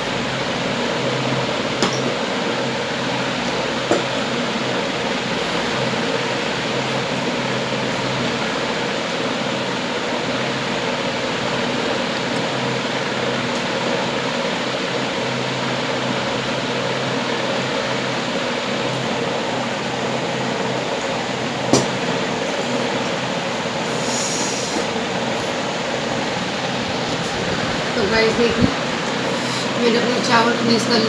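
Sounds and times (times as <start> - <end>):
electric fan running: 0.0 - 31.0.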